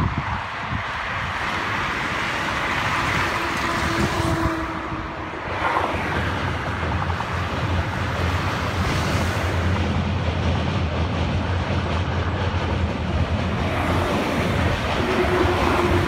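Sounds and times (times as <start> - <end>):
expressway traffic noise: 0.0 - 16.0.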